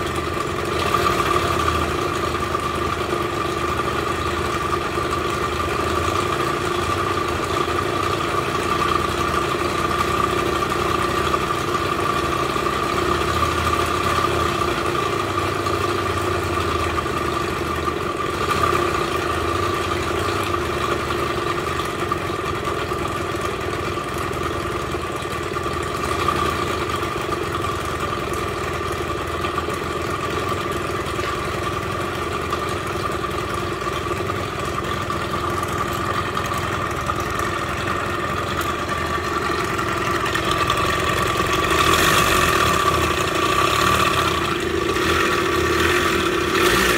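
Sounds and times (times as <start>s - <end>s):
scooter engine idling: 0.0s - 46.9s.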